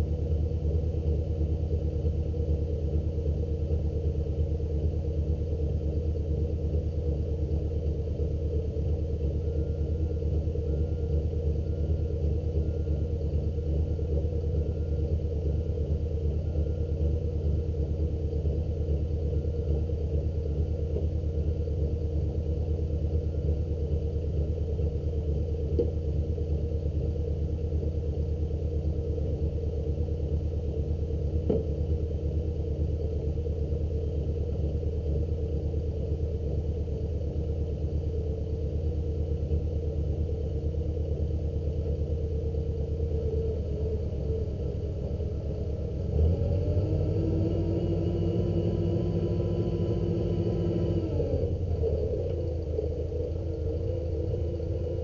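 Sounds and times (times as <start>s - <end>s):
truck engine idling: 0.0s - 46.2s.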